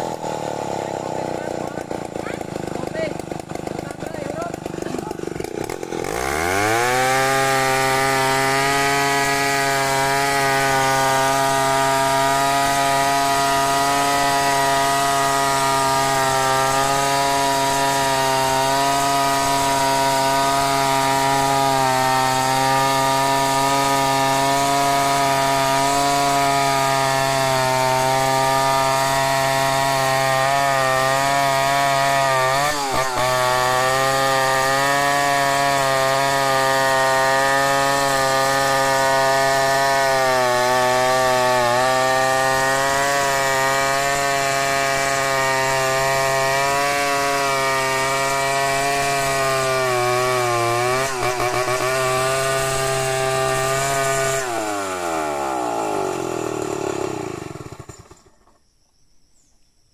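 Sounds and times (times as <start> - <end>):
chainsaw cutting log: 0.0 - 58.6.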